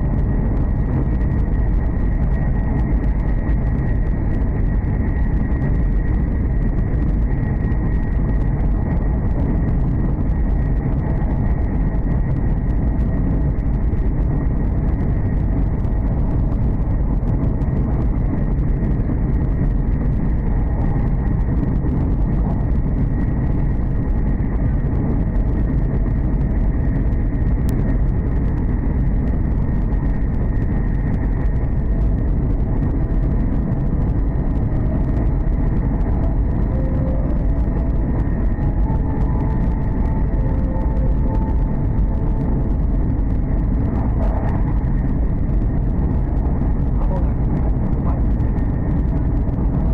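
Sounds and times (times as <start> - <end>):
thin high whine: 0.0 - 49.9
train rumbling inside cabin: 0.0 - 49.9.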